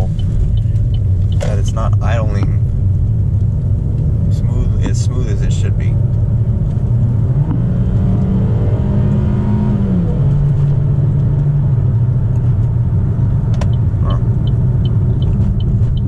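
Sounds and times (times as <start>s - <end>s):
car engine accelerating: 0.0s - 16.0s
low road rumble: 0.0s - 16.0s.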